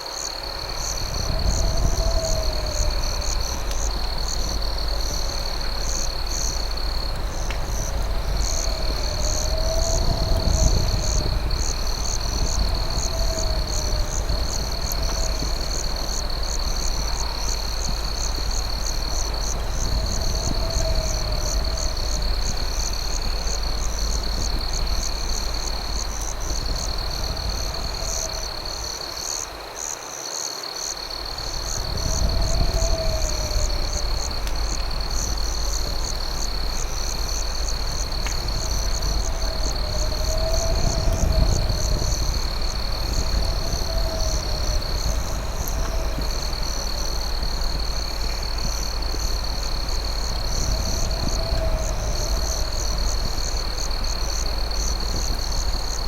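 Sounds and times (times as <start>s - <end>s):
crickets trilling: 0.0s - 56.0s
low rumble: 0.3s - 29.0s, 31.3s - 56.0s.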